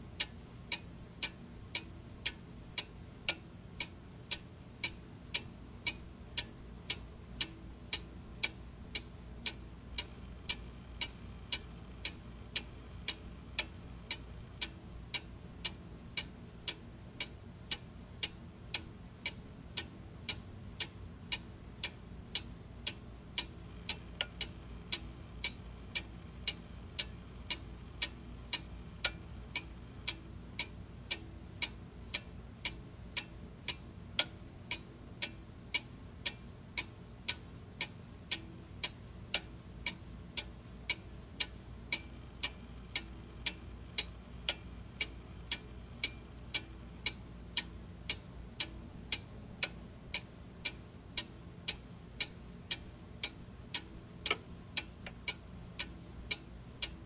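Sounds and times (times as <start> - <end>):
faint low hum: 0.0 - 57.0
clockwork ticking: 0.1 - 57.0.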